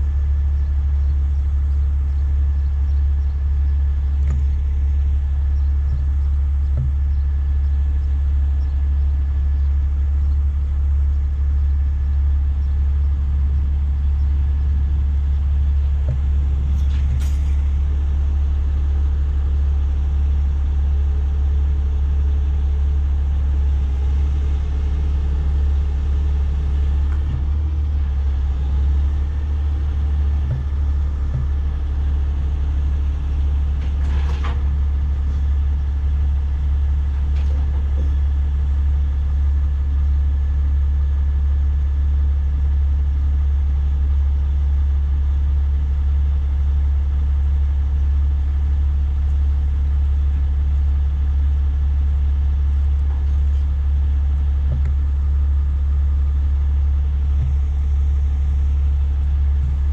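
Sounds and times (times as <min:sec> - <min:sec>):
diesel truck engine humming: 0:00.0 - 0:59.9.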